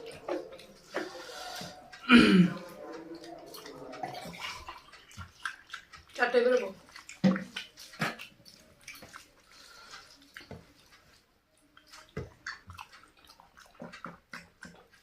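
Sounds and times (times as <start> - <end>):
wet eating squishes: 0.0 - 15.0.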